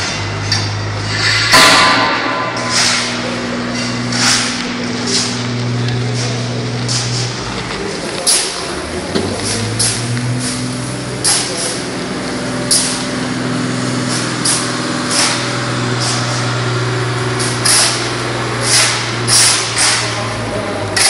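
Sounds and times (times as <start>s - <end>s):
factory machinery hum: 0.0s - 21.0s.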